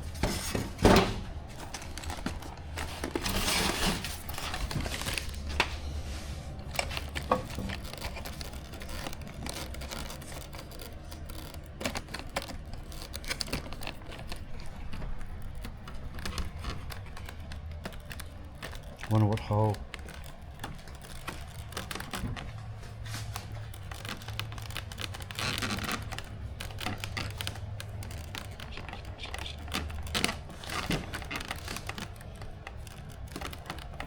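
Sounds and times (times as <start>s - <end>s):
packaging rustling: 0.0s - 34.0s.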